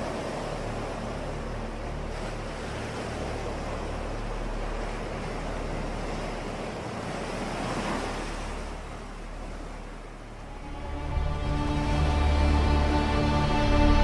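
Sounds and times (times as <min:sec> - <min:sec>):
ocean surf washing on beach: 0:00.0 - 0:13.4
wind: 0:00.0 - 0:14.0.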